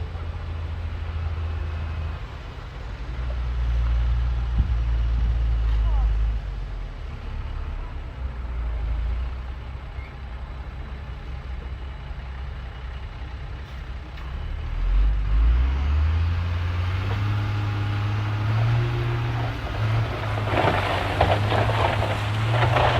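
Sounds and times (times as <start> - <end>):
bulldozer diesel engine rumbling: 0.0 - 22.9.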